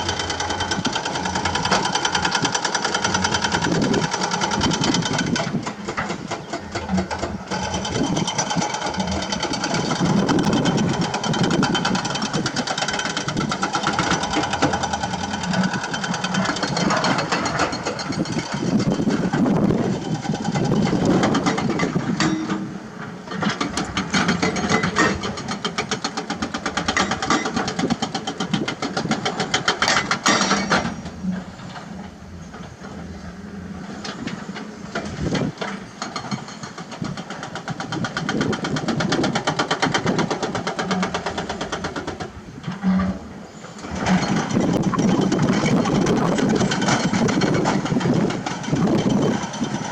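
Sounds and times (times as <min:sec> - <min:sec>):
excavator diesel engines: 0:00.0 - 0:49.9.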